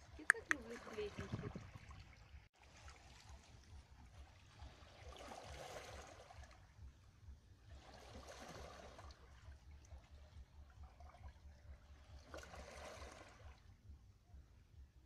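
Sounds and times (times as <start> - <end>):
small waves lapping on rocks: 0.0 - 6.7, 7.6 - 13.6.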